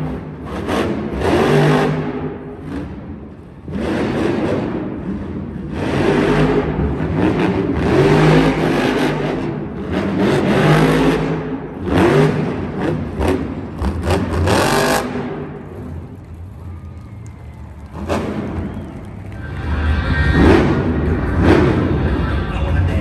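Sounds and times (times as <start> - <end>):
truck engine revving hard: 0.0 - 16.2, 17.8 - 23.0.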